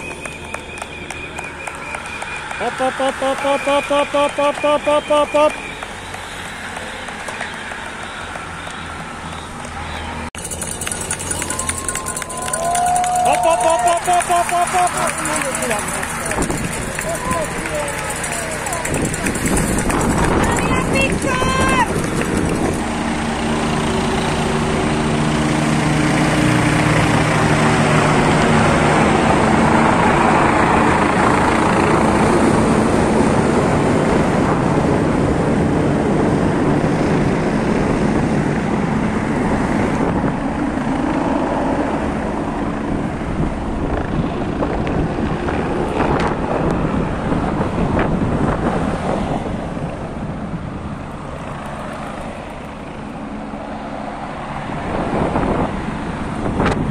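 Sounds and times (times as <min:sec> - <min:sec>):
vehicles passing at speed: 0:00.0 - 0:56.9.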